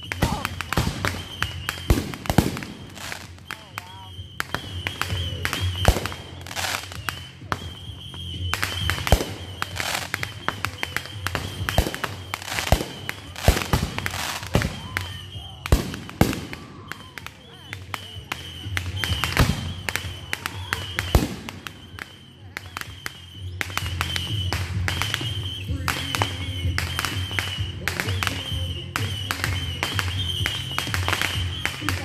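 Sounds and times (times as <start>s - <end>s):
fireworks bangs and pops: 0.0s - 32.0s.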